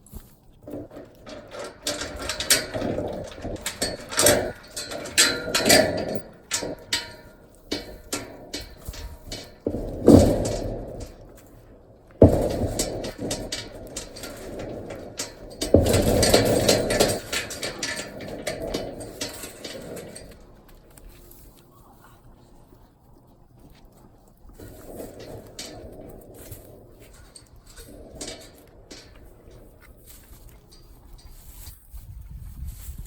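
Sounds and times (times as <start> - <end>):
knocking and scraping of hard objects: 0.0 - 33.0.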